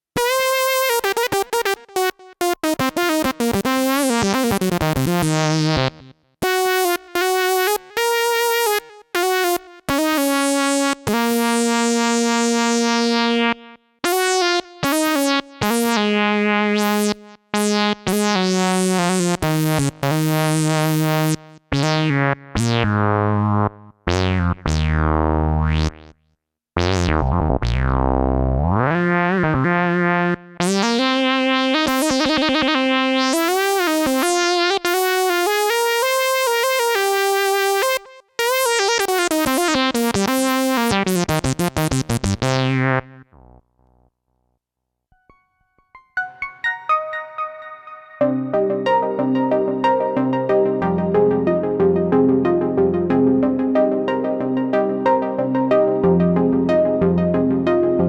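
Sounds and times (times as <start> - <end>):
synthesizer chords and notes: 0.2 - 26.1, 26.8 - 43.6, 45.2 - 58.0.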